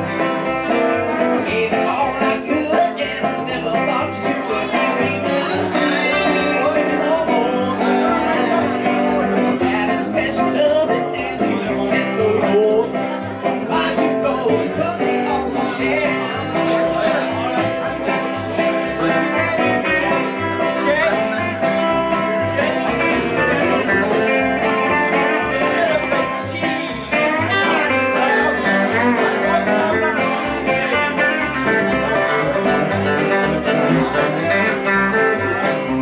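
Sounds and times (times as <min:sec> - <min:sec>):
electric guitar: 0:00.0 - 0:36.0
second guitar: 0:00.0 - 0:36.0
upright bass notes: 0:00.0 - 0:36.0.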